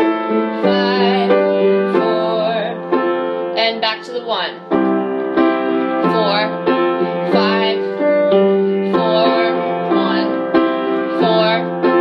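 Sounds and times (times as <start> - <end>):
upright piano playing chords: 0.0 - 12.0.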